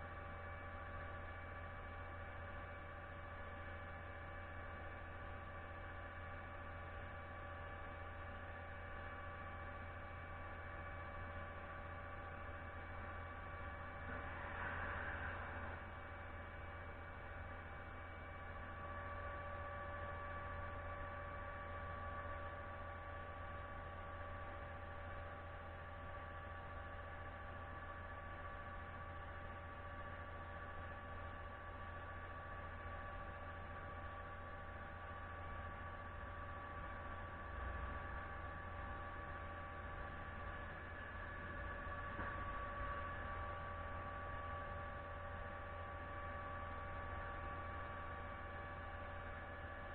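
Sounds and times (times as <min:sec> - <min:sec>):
concrete pump truck drone: 0:00.0 - 0:49.9.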